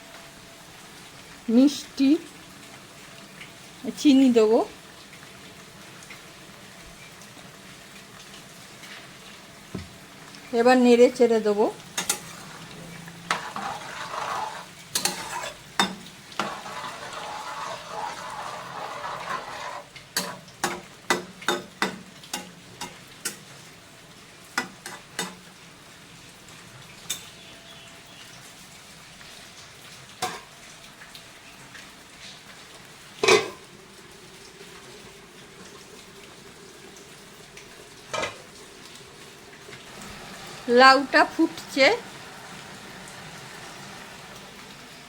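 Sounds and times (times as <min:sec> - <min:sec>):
curry sizzling in pan: 0:00.0 - 0:45.0.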